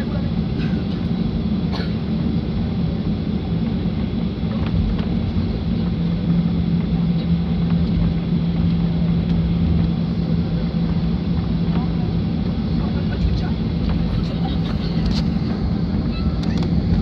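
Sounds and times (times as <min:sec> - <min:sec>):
jet engines rumbling in cabin: 0:00.0 - 0:17.0
steady low hum: 0:00.0 - 0:17.0.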